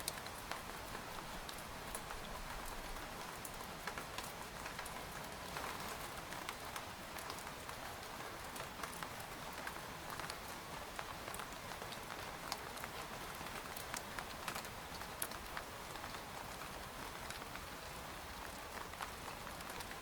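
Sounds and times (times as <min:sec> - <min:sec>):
rain on a tent: 0:00.0 - 0:20.0.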